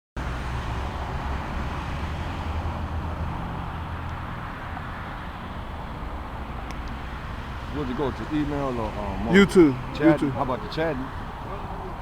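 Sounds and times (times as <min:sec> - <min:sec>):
road and traffic noise: 0:00.2 - 0:12.0.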